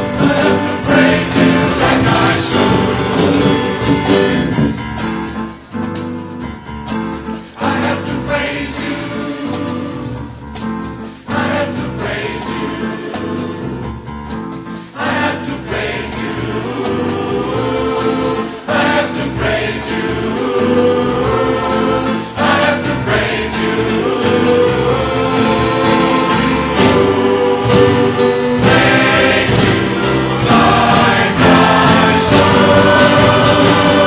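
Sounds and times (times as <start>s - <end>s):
large choir singing: 0.0s - 5.6s, 7.4s - 34.0s
percussion band drumming: 0.0s - 34.0s.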